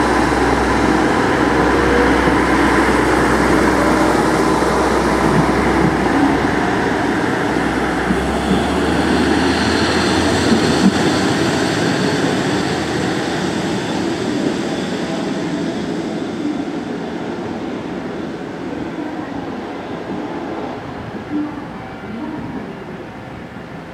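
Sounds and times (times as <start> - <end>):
diesel railcar passing: 0.0 - 23.9.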